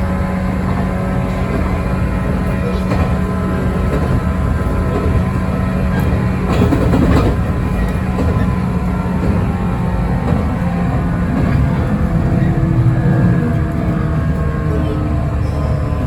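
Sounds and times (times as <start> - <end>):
train hum and track rumble: 0.0 - 16.0
train rattle: 0.0 - 16.0.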